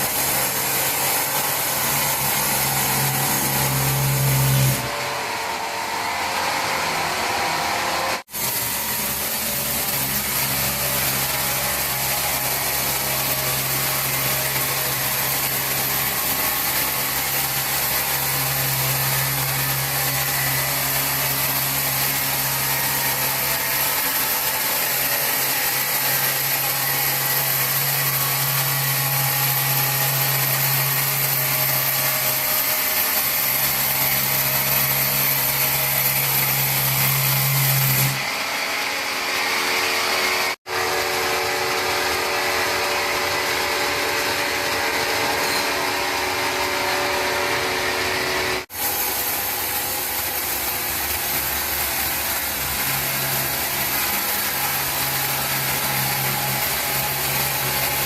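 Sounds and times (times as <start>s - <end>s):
powered wood saw running: 0.0s - 58.0s.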